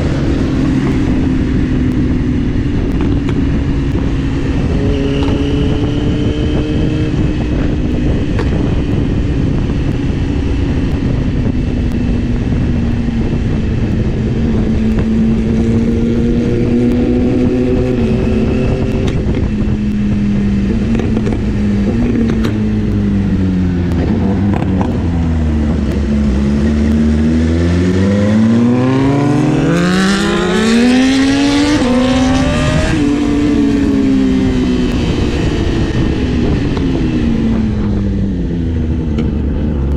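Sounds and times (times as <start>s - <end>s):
motorcycle engine revving: 0.0s - 39.9s
wind rush on microphone: 0.0s - 39.9s.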